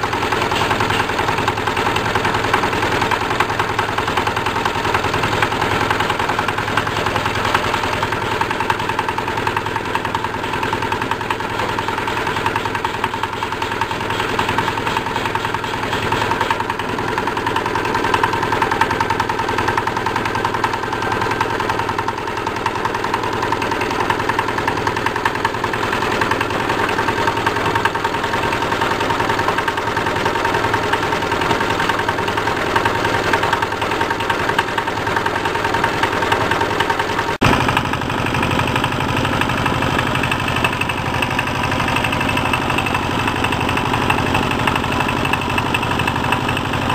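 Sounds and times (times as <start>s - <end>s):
washing machine drum running: 0.0s - 46.9s.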